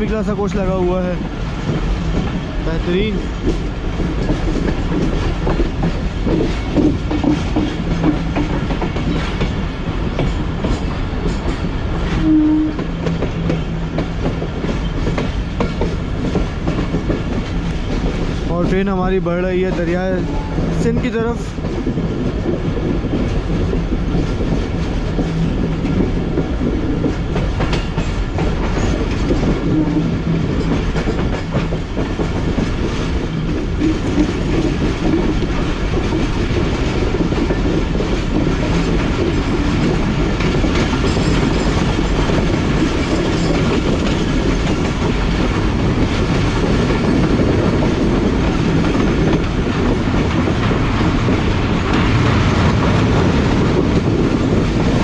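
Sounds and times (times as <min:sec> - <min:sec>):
train coach rumble: 0:00.0 - 0:55.0
wheels clacking over rail joints: 0:00.0 - 0:55.0.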